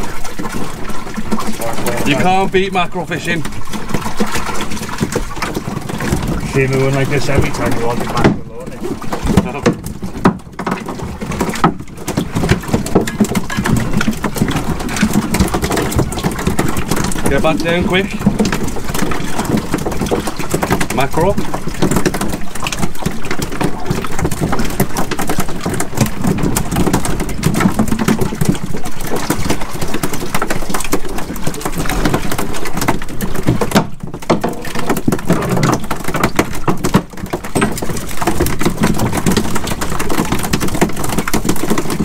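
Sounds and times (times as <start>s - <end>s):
boat engine running: 0.0s - 35.9s
rush of wind and water: 0.0s - 42.0s.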